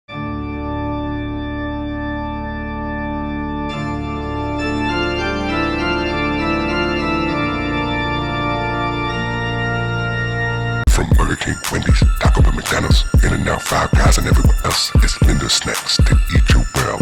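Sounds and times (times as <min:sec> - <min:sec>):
organ playing held chords: 0:00.1 - 0:17.0.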